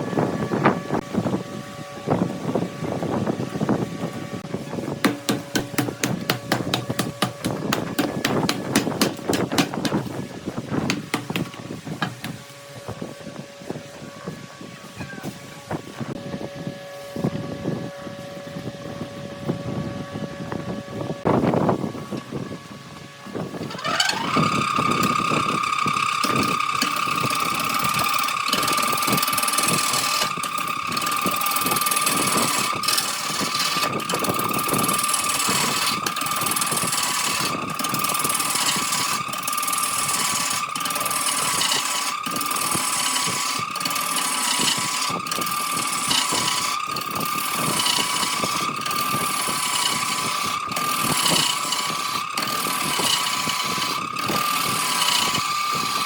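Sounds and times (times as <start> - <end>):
lathe motor whining: 0.0 - 14.2, 23.3 - 56.0.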